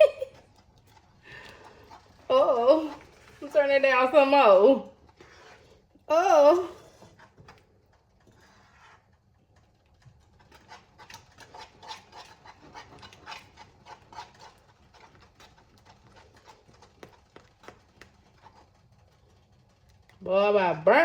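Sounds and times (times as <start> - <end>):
spoon scraping a pot: 0.0 - 20.2.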